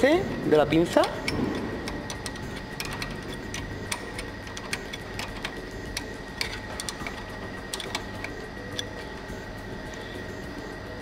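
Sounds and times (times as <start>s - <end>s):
ratcheting wrench clicking: 0.7s - 10.3s.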